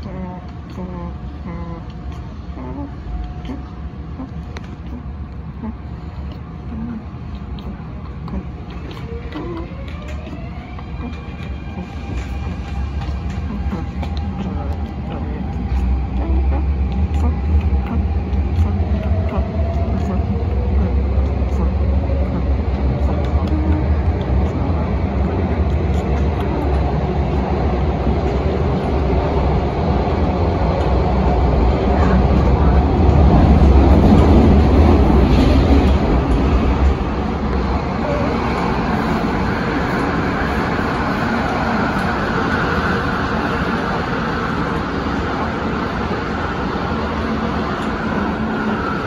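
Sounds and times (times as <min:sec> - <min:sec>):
train wheels rumbling on rail: 0:08.6 - 0:49.0.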